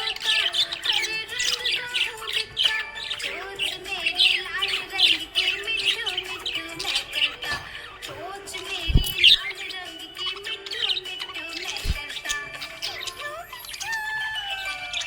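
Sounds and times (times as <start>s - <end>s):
background music with held notes: 0.0s - 15.0s
budgerigars chirping and squawking: 0.0s - 15.0s.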